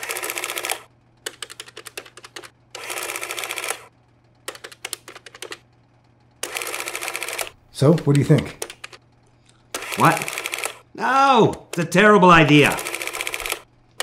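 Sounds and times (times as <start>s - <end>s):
rapid mechanical clicking: 0.0s - 9.1s, 9.7s - 10.8s, 12.6s - 14.0s.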